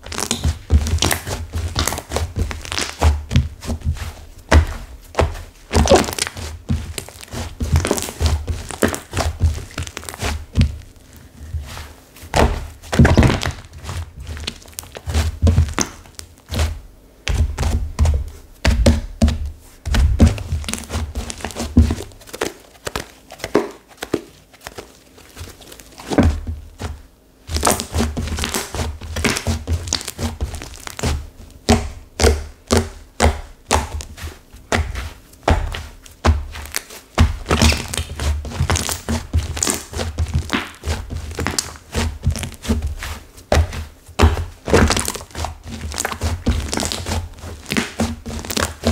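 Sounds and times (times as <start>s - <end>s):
clay slime dull thuds: 0.0s - 48.9s.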